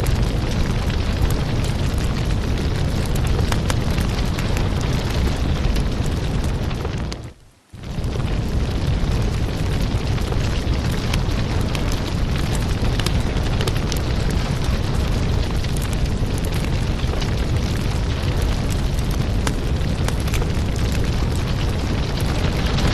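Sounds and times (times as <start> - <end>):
firewood burning with crackles: 0.0 - 22.9.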